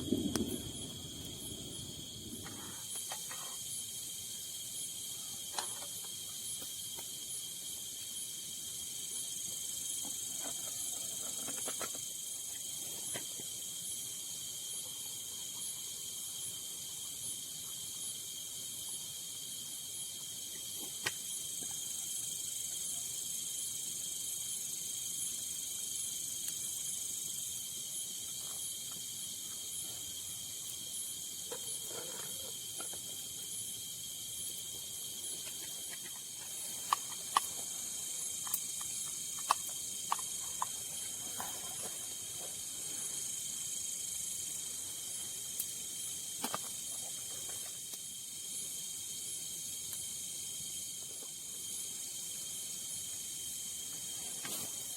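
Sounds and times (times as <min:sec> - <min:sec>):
crickets trilling: 0:00.0 - 0:54.9.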